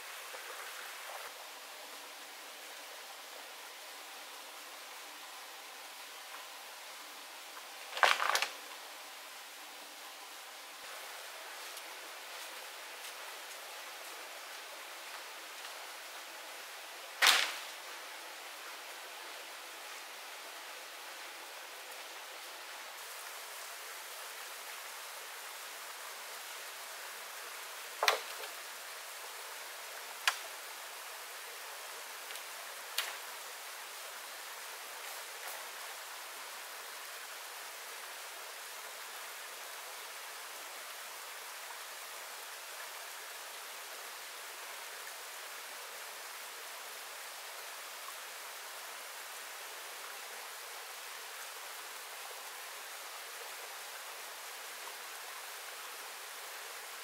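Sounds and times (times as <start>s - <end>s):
stream rushing: 0.0s - 57.0s.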